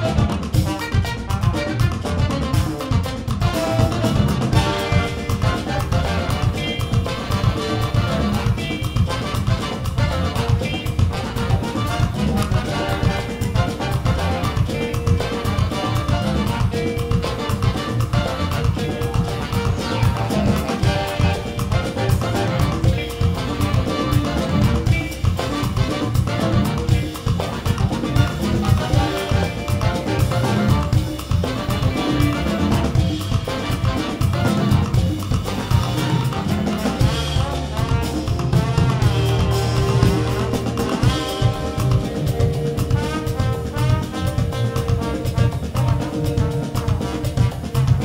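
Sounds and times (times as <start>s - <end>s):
drum kit beat: 0.0s - 48.0s
horn section: 0.0s - 48.0s
live band playing: 0.0s - 48.0s.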